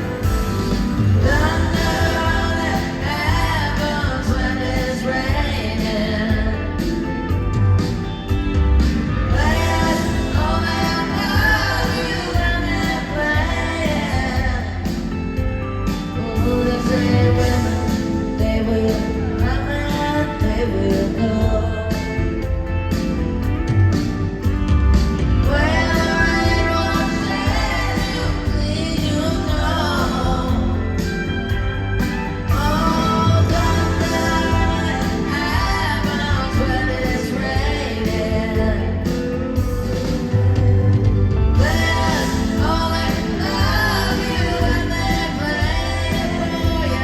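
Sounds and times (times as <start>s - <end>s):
live rock band with singing: 0.0s - 47.0s.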